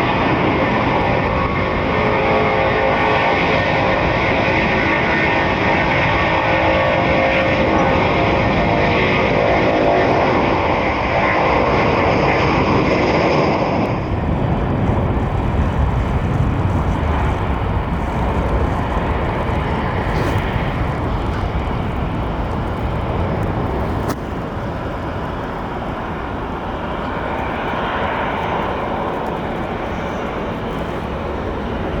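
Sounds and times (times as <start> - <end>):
high engine whine: 0.0 - 32.0
jet engines roaring: 0.0 - 32.0.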